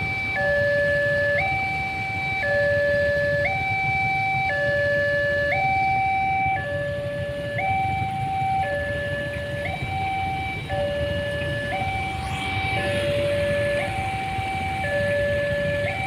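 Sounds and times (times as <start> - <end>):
idling vehicles rumble: 0.0 - 16.0
level-crossing two-tone alarm: 0.0 - 16.0.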